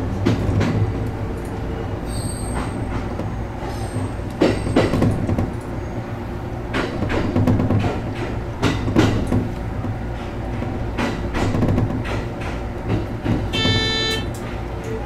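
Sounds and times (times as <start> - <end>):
wheels clacking over rail joints: 0.0 - 5.8, 6.6 - 15.0
electric train low rumble: 0.0 - 15.0.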